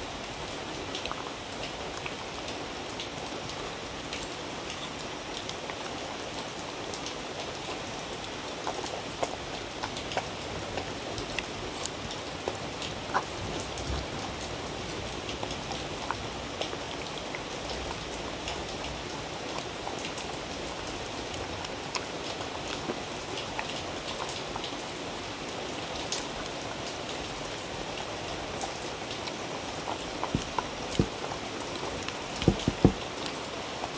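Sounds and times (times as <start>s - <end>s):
dog chewing and licking: 4.7s - 24.9s, 26.1s - 33.4s.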